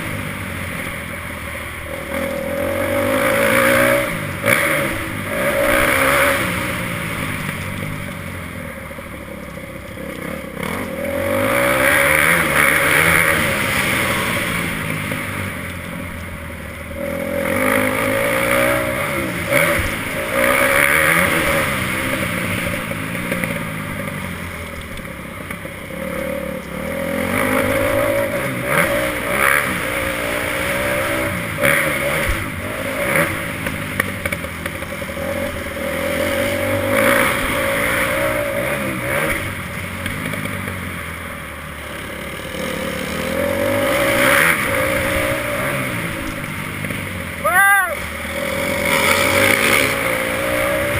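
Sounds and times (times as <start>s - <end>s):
dirt bike engine revving: 0.0s - 8.1s, 8.8s - 24.6s, 25.4s - 50.9s.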